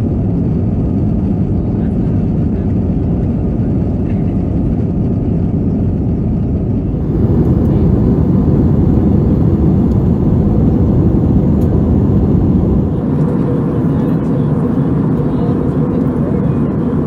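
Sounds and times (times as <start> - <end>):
jet engine cabin rush: 0.5 - 17.0.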